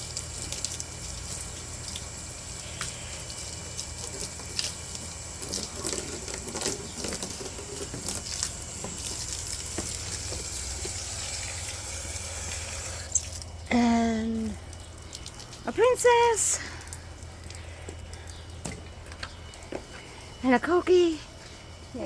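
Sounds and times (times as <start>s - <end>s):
garden hose spraying water: 0.0s - 22.0s.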